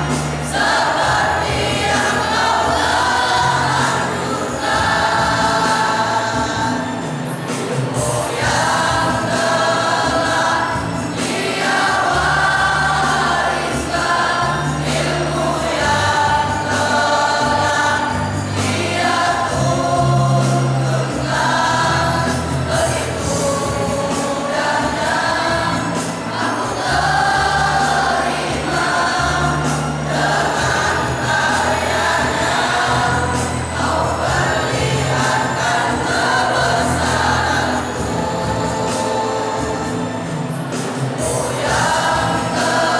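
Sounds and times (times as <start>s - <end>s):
boys' choir singing: 0.0s - 42.9s.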